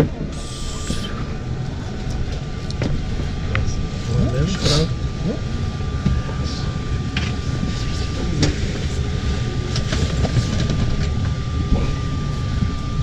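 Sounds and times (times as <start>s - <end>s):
thin steady whine: 0.0s - 13.0s
train low rumble: 0.0s - 13.0s.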